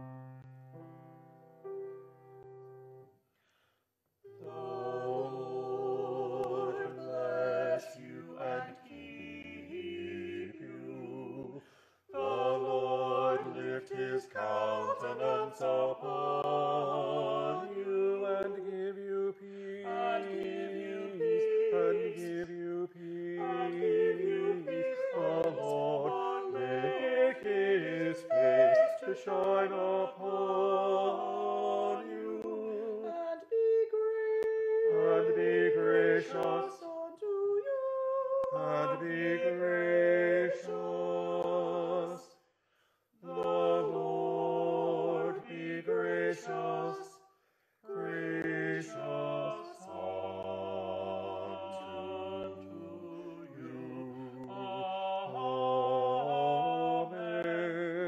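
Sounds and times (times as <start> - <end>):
choir singing in harmony: 4.2 - 42.4, 43.2 - 58.0.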